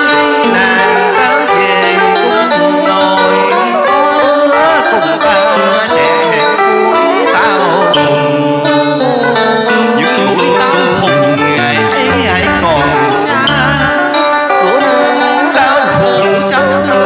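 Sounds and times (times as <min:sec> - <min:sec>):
amplified backing music: 0:00.0 - 0:17.0
man singing into a microphone: 0:00.0 - 0:17.0.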